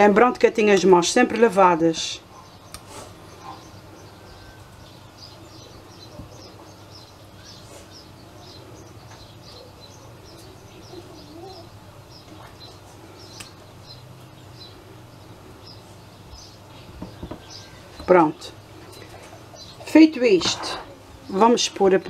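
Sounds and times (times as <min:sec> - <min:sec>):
faint low hum: 0:00.0 - 0:22.0
small bird chirping: 0:02.3 - 0:21.6.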